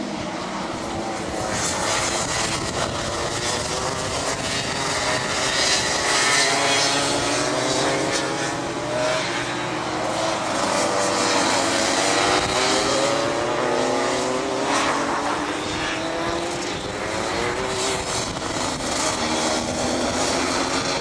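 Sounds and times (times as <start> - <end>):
kart engines buzzing: 0.0 - 21.0.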